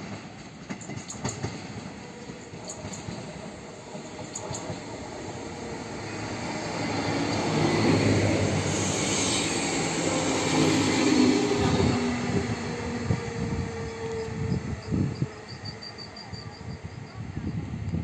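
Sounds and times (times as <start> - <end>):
diesel railcar engine: 0.0 - 18.0
train wheels on rails: 0.0 - 18.0.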